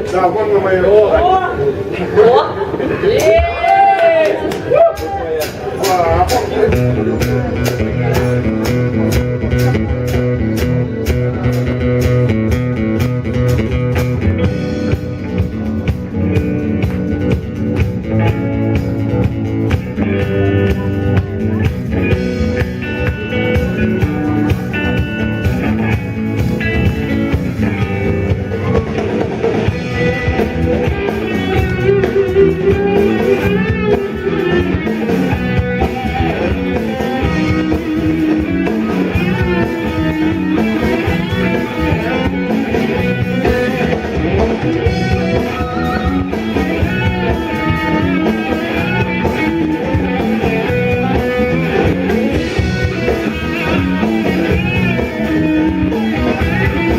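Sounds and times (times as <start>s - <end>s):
guitar rock music with drums: 4.4s - 56.9s.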